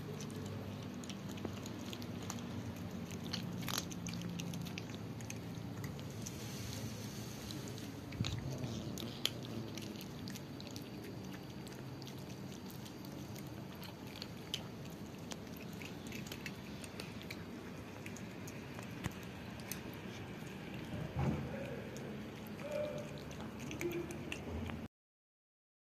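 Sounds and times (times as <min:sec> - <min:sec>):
cats crunching dry kibble: 0:00.0 - 0:24.9.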